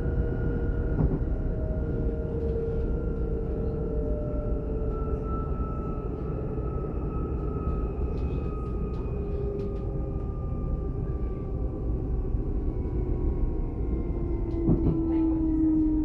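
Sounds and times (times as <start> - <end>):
train rolling rumble: 0.0 - 16.0.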